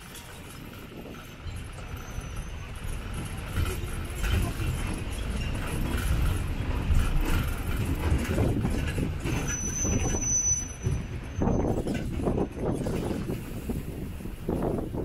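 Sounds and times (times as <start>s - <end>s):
road train low rumble: 0.0s - 15.0s.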